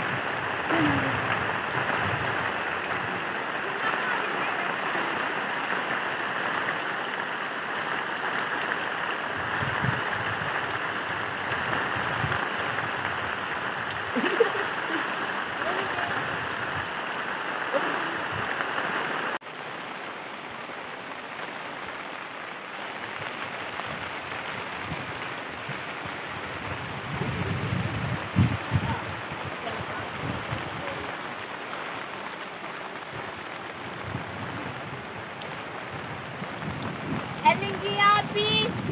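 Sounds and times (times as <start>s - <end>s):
heavy rain on a pond: 0.0s - 38.9s.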